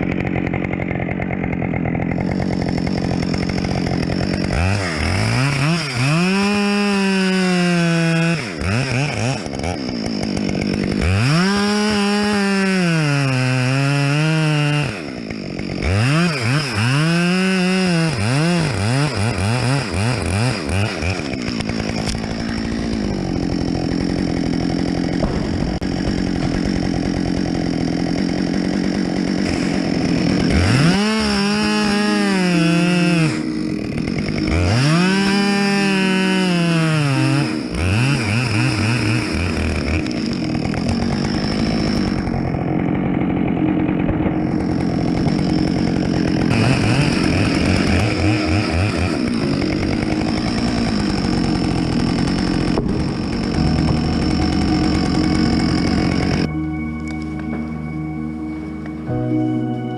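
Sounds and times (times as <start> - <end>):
chainsaw cutting wood: 0.0 - 59.6.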